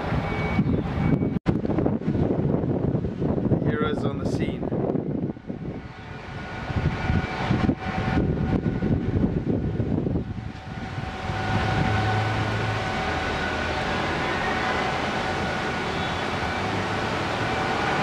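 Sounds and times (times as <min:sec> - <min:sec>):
engine drone with high whine: 0:00.0 - 0:18.0
irregular low rumbling: 0:00.9 - 0:17.6.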